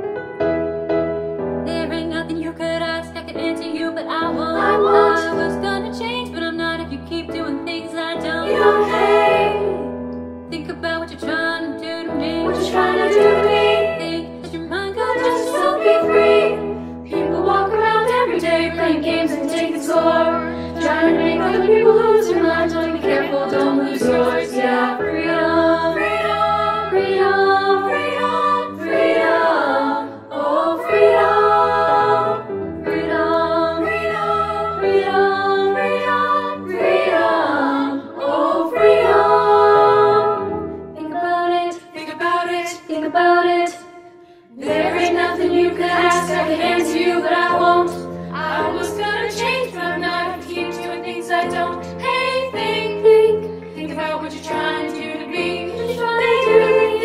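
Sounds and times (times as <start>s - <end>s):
girls' choir singing in harmony: 4.2s - 5.9s, 8.1s - 10.0s, 11.2s - 57.0s.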